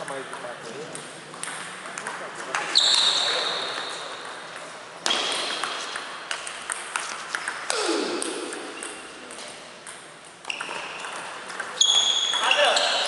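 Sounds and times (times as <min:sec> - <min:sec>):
table tennis balls clicking: 0:00.0 - 0:02.7, 0:03.7 - 0:13.0.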